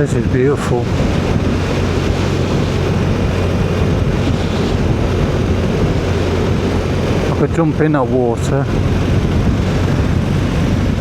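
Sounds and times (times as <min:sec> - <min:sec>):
motorcycle engine humming: 0:00.0 - 0:11.0
wind buffeting microphone: 0:00.0 - 0:11.0.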